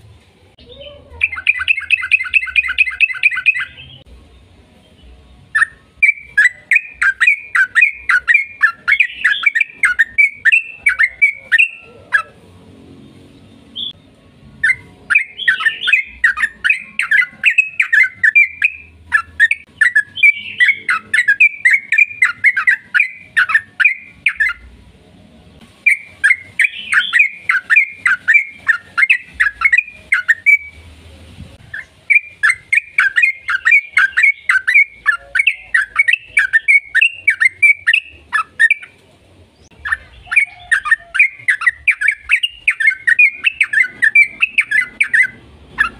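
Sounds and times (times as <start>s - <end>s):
bird singing chattering song: 0.6s - 12.4s, 13.0s - 24.8s, 25.8s - 30.9s, 31.6s - 45.9s.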